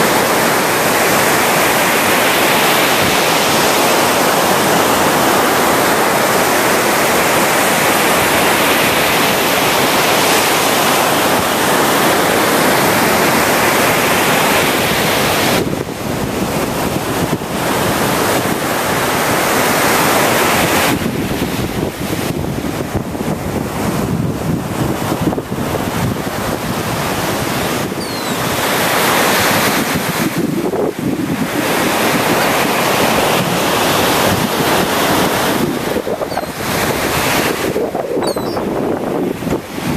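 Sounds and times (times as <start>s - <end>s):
ocean surf breaking: 0.0s - 39.9s
wind buffeting microphone: 0.0s - 39.9s.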